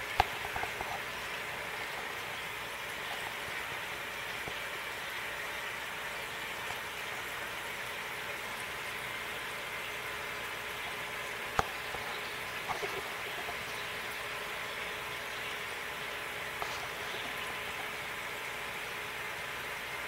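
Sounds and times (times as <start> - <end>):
aquarium air bubbling: 0.0 - 20.0.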